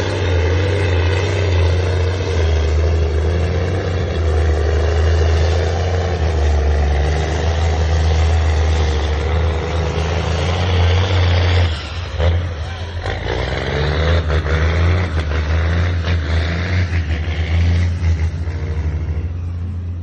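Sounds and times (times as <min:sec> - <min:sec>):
truck engine deep drone: 0:00.0 - 0:20.0.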